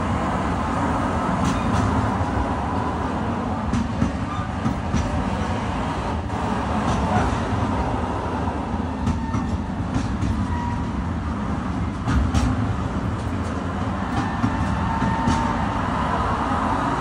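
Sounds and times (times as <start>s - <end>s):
wagons knocking and clanking: 0.0s - 8.0s, 8.7s - 17.0s
train wheels rumbling on rail: 0.0s - 17.0s.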